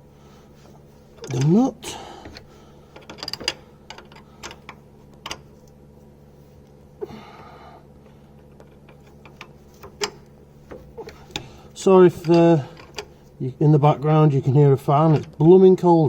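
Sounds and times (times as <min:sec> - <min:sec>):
fan heater humming: 0:00.0 - 0:16.0.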